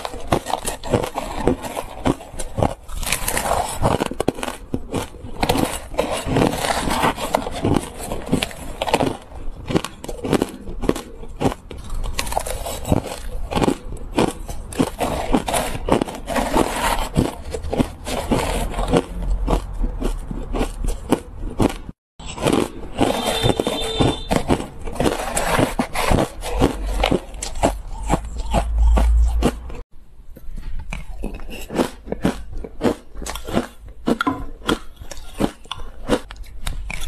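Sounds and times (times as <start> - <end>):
crunching and chewing ice: 0.0 - 37.0.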